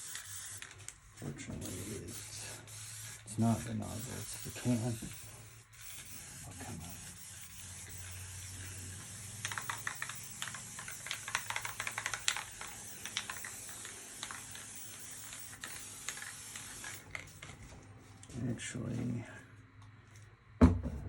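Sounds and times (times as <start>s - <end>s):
spray paint can hissing: 0.0s - 0.9s, 1.5s - 17.6s
spray can sputtering: 0.0s - 17.6s.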